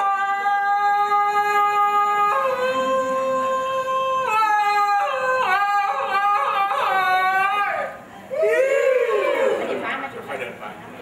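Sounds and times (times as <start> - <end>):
man's long drawn-out shout: 0.0 - 9.4.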